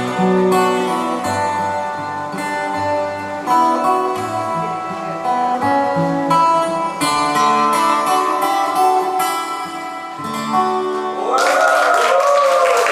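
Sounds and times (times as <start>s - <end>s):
plucked string music: 0.0s - 11.3s.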